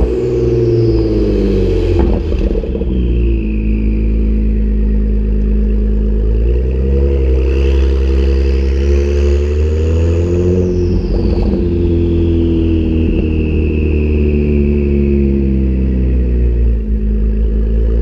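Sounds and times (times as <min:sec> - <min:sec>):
faint high whine: 0:00.0 - 0:17.1
car engine through exhaust: 0:00.0 - 0:18.0.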